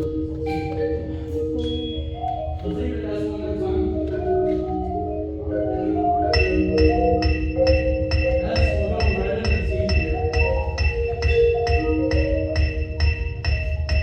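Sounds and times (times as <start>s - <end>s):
marimba notes: 0.0s - 14.0s
vibraphone notes: 0.0s - 14.0s.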